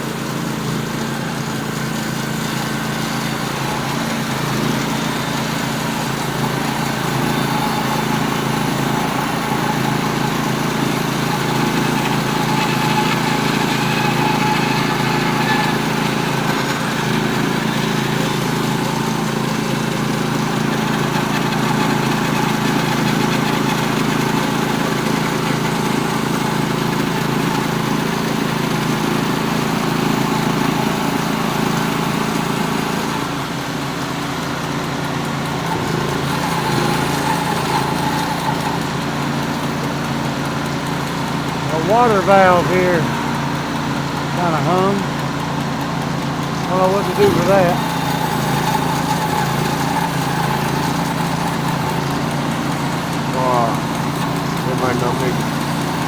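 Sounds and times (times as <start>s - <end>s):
engine drone: 0.0s - 56.0s
sawmill mechanical noise: 0.0s - 56.0s.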